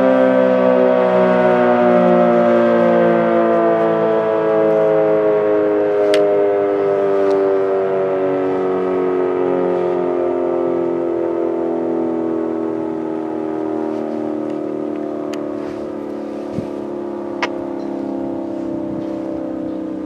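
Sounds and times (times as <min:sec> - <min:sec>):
dual-tone warning siren winding down: 0:00.0 - 0:20.0.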